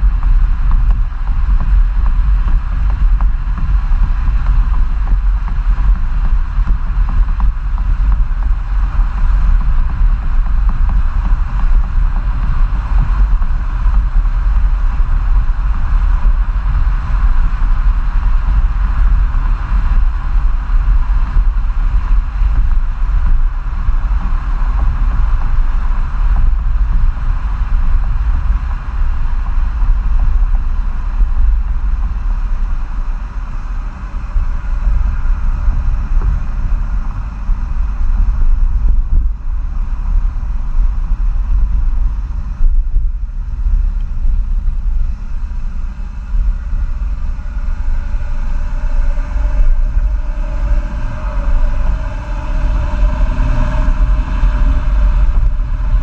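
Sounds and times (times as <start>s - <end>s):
diesel engine exhaust: 0.0s - 56.0s
wind rumble on microphone: 0.0s - 56.0s.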